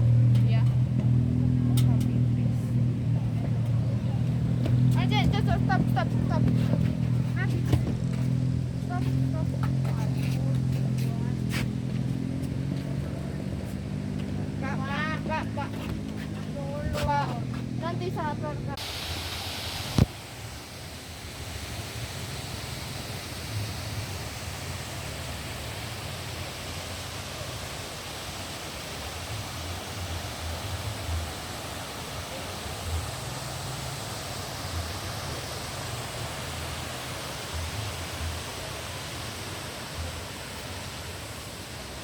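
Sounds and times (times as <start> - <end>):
falling water rushing: 0.0 - 42.0.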